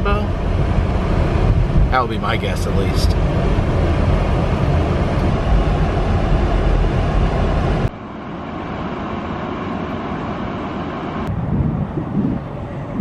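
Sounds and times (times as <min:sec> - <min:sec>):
car road and engine rumble: 0:00.0 - 0:13.0
street-side hiss: 0:00.0 - 0:13.0.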